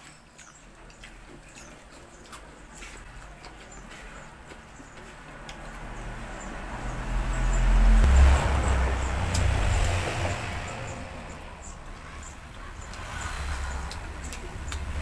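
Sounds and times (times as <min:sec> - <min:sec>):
vehicle passing by: 0:01.9 - 0:15.0.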